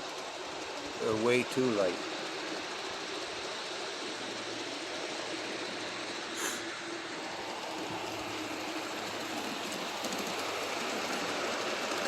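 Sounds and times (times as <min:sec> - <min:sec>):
model train wheels on track: 0:00.0 - 0:12.0.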